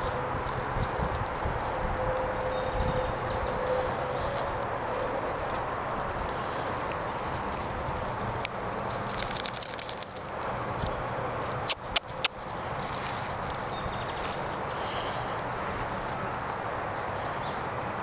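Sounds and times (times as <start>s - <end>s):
dog paws rustling through dry leaves: 0.0s - 17.3s.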